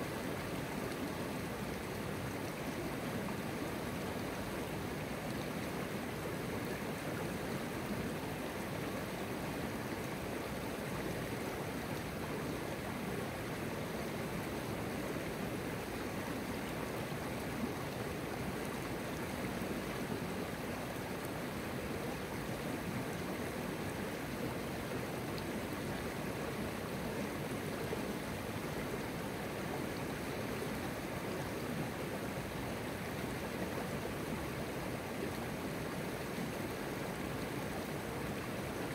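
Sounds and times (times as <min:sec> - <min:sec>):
river flowing over stones: 0:00.0 - 0:38.9.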